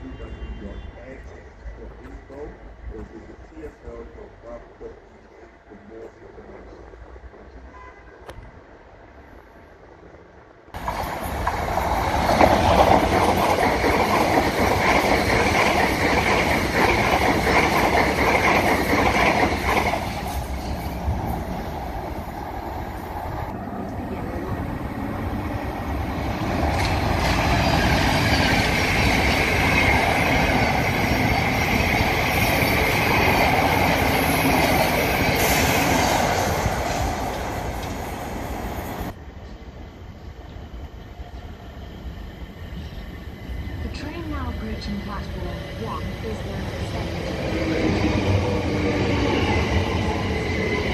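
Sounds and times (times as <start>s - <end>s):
electric trains passing: 8.6s - 50.9s.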